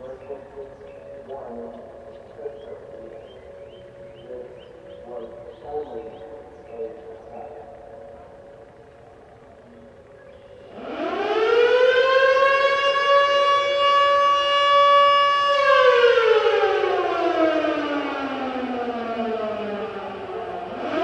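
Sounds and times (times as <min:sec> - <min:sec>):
distant sirens: 0:00.0 - 0:21.0
warning siren wailing: 0:00.0 - 0:21.0.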